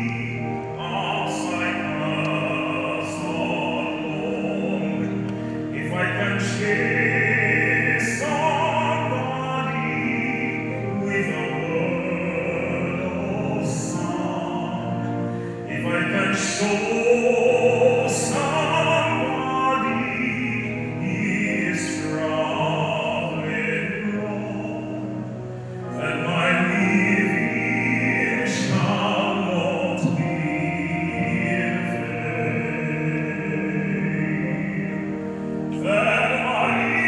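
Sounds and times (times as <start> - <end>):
person singing operatic style: 0.0 - 37.0.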